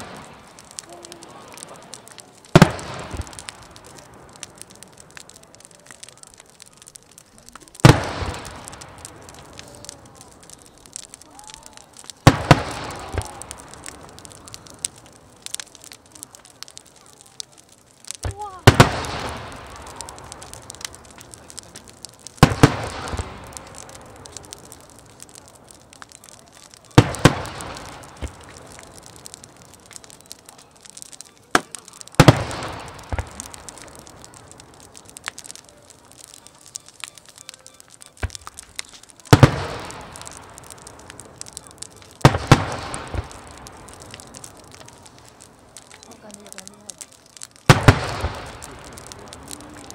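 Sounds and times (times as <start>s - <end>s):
fireworks booming: 0.0s - 16.7s, 18.1s - 49.9s
faint crackling: 0.0s - 49.9s.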